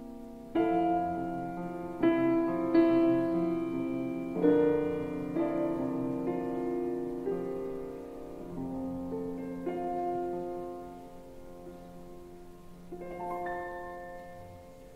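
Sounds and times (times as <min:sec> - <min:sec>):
slow solo piano chords: 0:00.0 - 0:14.9.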